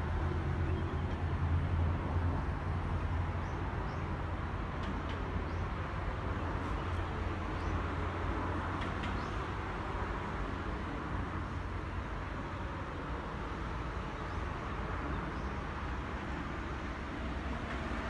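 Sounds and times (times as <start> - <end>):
outdoor rumble and hiss: 0.0 - 18.0.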